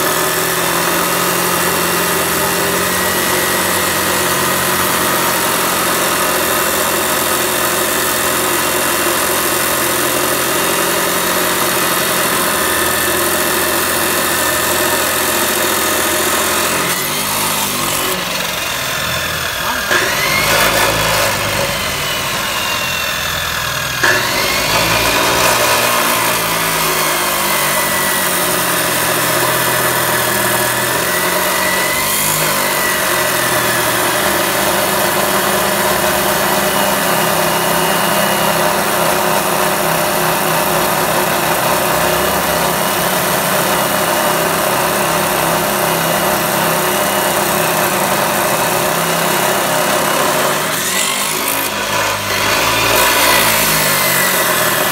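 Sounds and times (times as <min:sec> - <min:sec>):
chop saw grinding through steel: 0:00.0 - 0:54.9.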